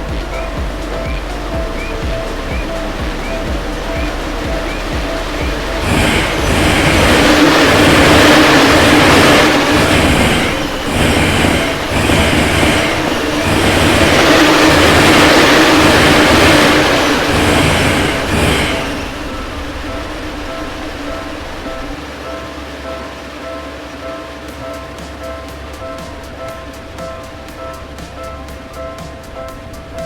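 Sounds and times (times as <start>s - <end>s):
train passing: 0.0s - 30.0s.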